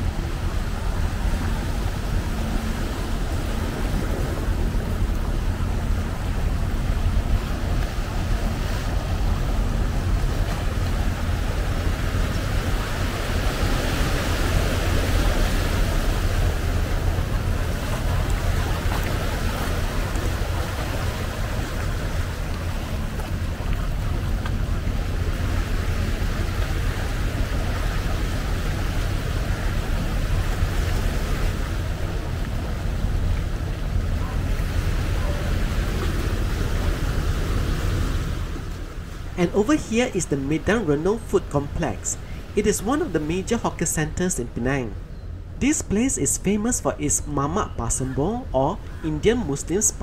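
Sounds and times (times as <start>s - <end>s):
waves washing over rocks: 0.0s - 44.9s.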